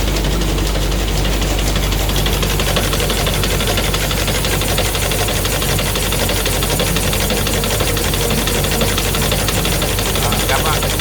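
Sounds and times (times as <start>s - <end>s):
machine hum and mechanical clatter: 0.0s - 11.0s.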